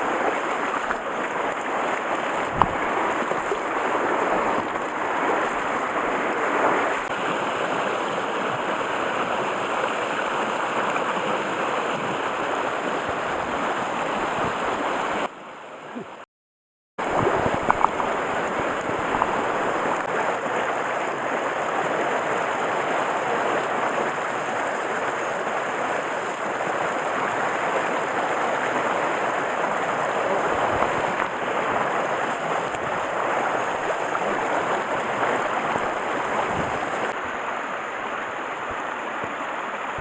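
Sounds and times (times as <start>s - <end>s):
stream water rushing: 0.0s - 16.2s, 17.0s - 40.0s.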